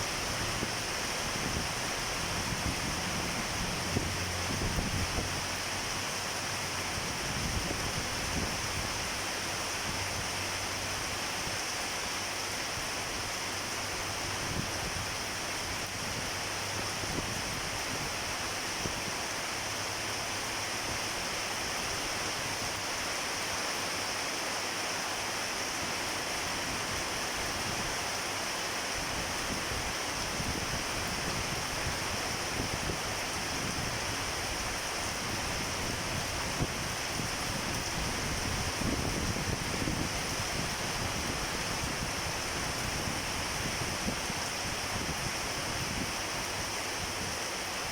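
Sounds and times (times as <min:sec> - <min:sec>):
storm wind and rain: 0:00.0 - 0:47.9.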